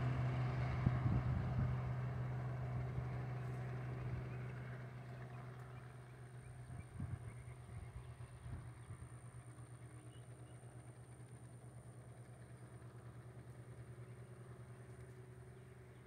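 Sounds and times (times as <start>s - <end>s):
helicopter rotor beat: 0.0s - 16.0s.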